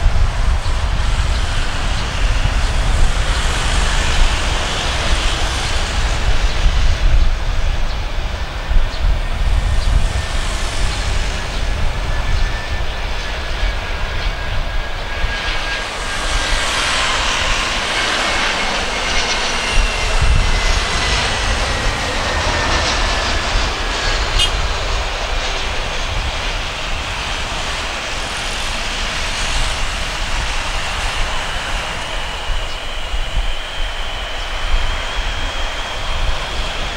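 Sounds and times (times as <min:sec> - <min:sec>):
jet airliner passing overhead: 0:00.0 - 0:36.9.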